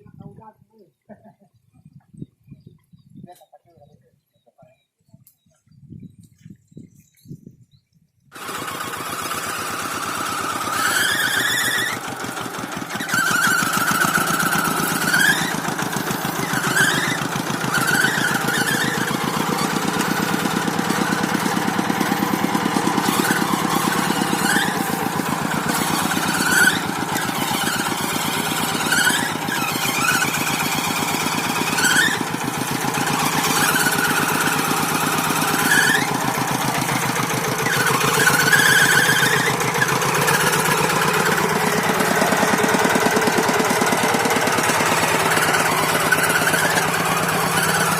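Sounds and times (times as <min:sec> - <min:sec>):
high squeals: 0:08.4 - 0:47.9
tractor engine knocking: 0:08.4 - 0:47.9.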